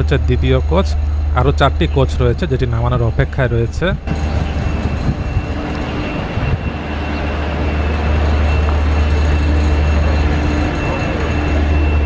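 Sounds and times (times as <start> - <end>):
diesel truck engine rumble: 0.0 - 12.0.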